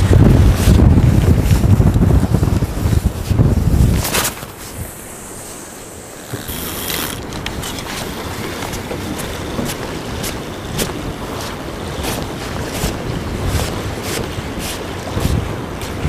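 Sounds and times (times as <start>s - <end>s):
water splashing against boat hull: 0.0s - 16.0s
wind on microphone: 0.0s - 16.0s.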